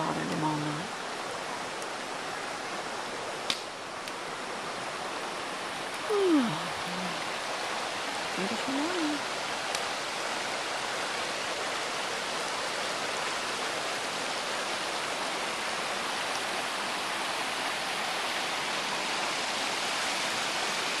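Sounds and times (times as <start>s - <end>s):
creek rushing over stones: 0.0s - 21.0s.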